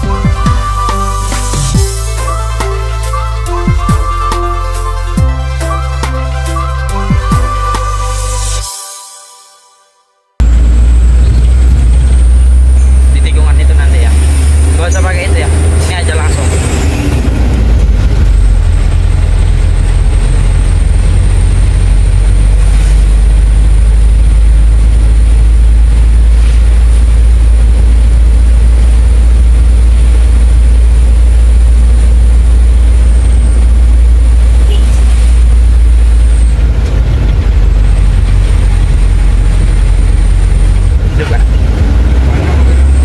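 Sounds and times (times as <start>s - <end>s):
truck engine rumbling: 0.0s - 8.8s, 10.4s - 43.0s.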